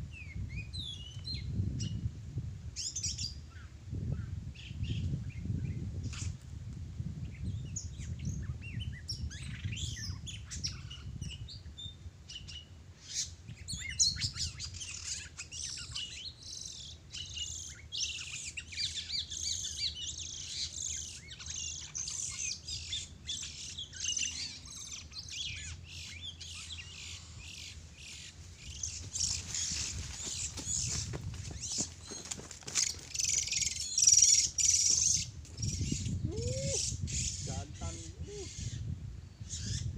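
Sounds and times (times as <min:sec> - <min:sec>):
small birds chirping: 0:00.1 - 0:02.1, 0:07.2 - 0:39.9.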